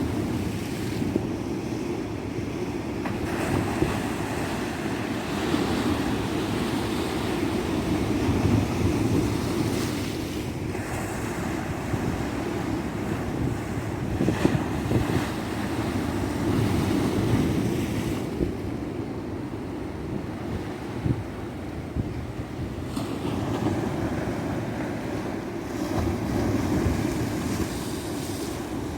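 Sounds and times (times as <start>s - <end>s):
waves breaking on a beach: 0.0s - 28.9s
wind rumble on microphone: 0.0s - 28.9s.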